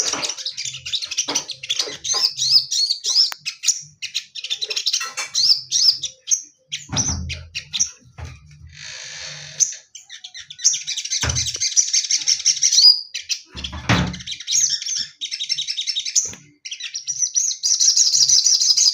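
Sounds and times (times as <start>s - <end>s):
bird chirping and trilling: 0.0s - 18.9s.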